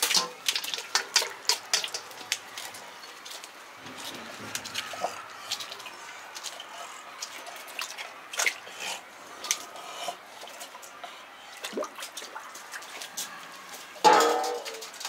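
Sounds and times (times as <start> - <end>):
water dripping and splashing: 0.0 - 15.0.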